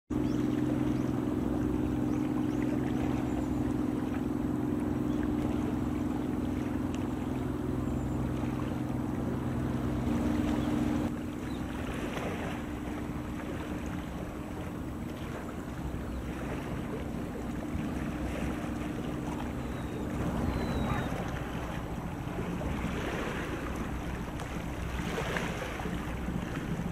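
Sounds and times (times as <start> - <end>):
ship diesel engine humming: 0.1 - 26.9
waves washing: 0.1 - 26.9.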